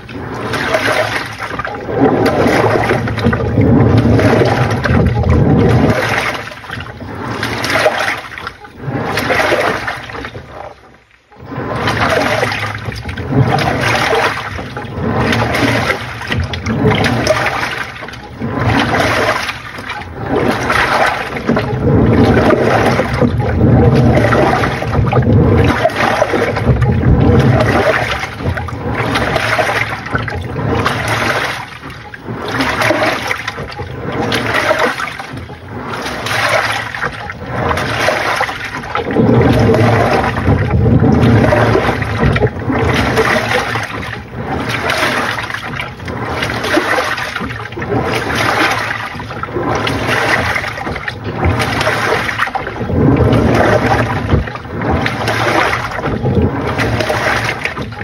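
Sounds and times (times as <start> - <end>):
washing machine water sloshing: 0.0 - 58.0.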